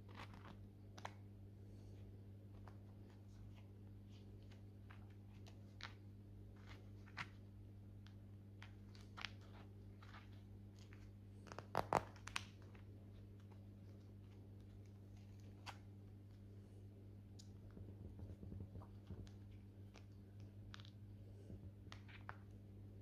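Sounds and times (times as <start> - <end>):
gloved hands crinkling and clicking: 0.0 - 1.3, 2.4 - 16.4, 17.3 - 22.7
steady low hum: 0.0 - 23.0.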